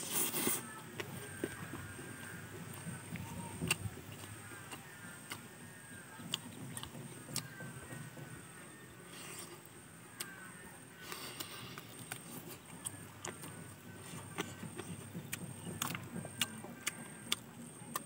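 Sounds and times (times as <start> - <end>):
chewing fried chicken: 0.0 - 18.0.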